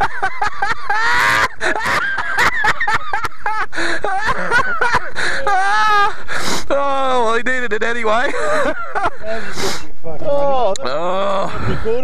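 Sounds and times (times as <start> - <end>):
men laughing: 0.0 - 7.1, 8.1 - 9.9, 10.8 - 12.0.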